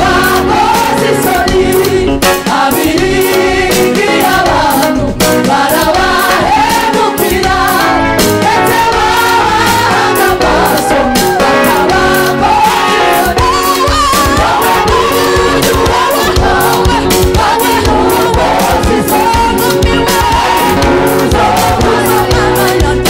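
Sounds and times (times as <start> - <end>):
band with steady beat: 0.0 - 23.0
gospel choir singing: 0.0 - 23.0.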